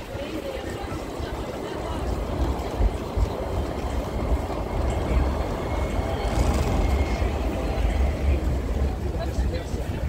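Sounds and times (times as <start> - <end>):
people talking: 0.0 - 10.0
steady low rumble: 0.2 - 10.0.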